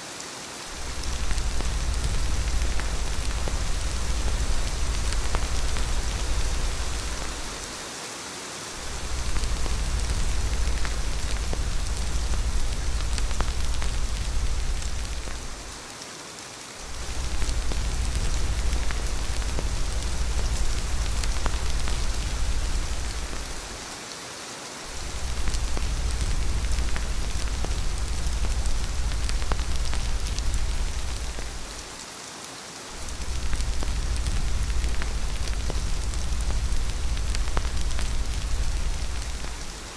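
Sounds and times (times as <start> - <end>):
rain hiss: 0.0 - 39.9
deep rumble: 0.7 - 7.8, 8.8 - 15.8, 16.9 - 23.8, 24.9 - 31.9, 33.0 - 39.9.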